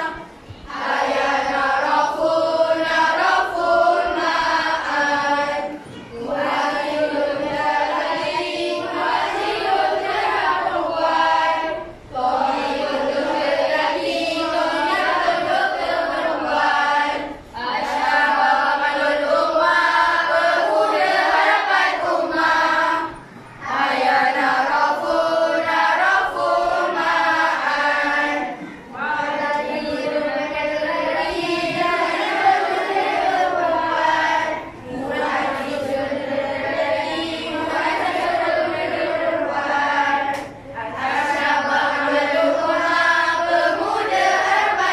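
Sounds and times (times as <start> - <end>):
children singing in unison: 0.0 - 44.9.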